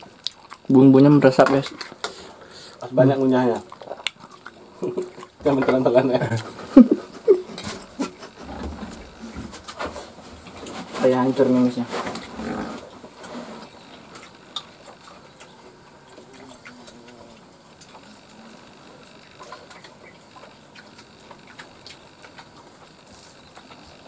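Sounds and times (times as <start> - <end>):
fingers and food against plates: 0.0 - 24.0
people chewing: 0.0 - 24.0.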